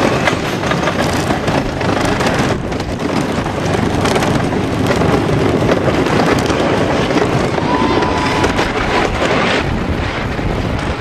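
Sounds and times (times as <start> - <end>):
roller coaster clattering on track: 0.0 - 11.0
wind buffeting microphone: 0.0 - 11.0.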